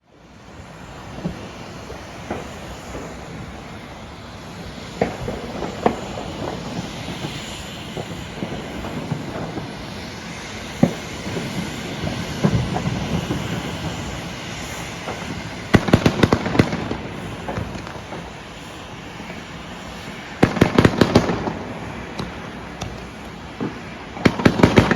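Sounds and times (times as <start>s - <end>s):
string of firecrackers cracking: 0.4s - 24.9s
fireworks bangs: 0.6s - 24.9s.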